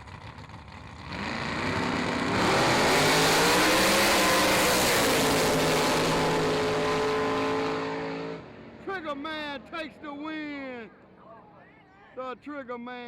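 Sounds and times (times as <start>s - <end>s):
drag race cars at full throttle: 0.0s - 11.7s.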